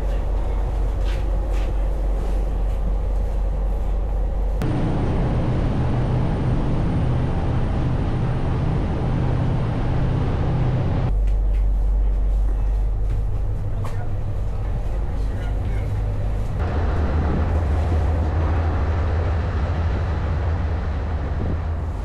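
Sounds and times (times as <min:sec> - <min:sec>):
ferry engines droning: 0:00.0 - 0:22.0.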